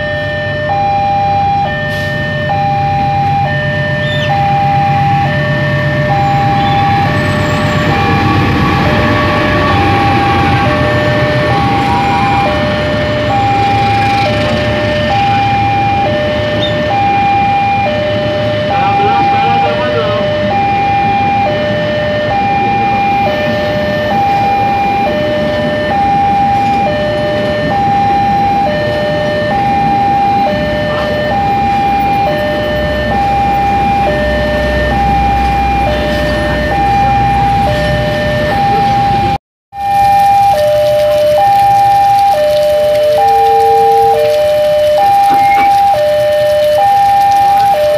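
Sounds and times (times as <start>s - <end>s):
level crossing two-tone alarm: 0.0s - 47.9s
rain: 0.1s - 47.9s
passing train: 1.6s - 47.9s.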